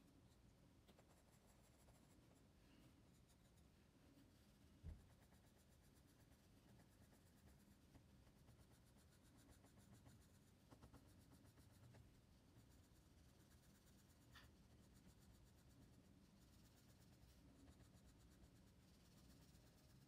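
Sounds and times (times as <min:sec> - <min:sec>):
pencil scratching on paper: 0:00.9 - 0:02.4, 0:03.0 - 0:20.0.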